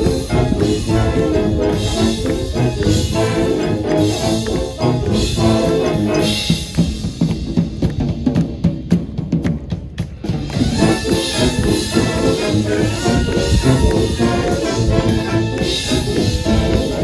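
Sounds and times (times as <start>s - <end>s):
brass chords: 0.0s - 7.5s, 10.3s - 17.0s
snare and bass drums: 0.0s - 17.0s.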